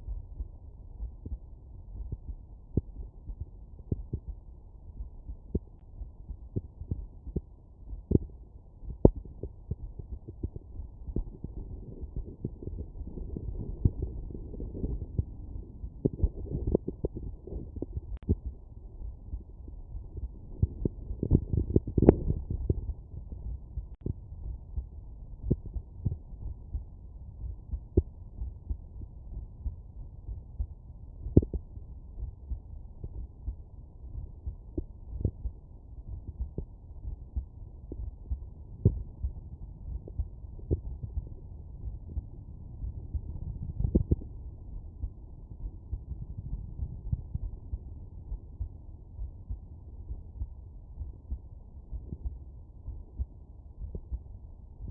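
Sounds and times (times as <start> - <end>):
heartbeat thumps: 0.0 - 54.9
steady low rumble: 0.0 - 54.9.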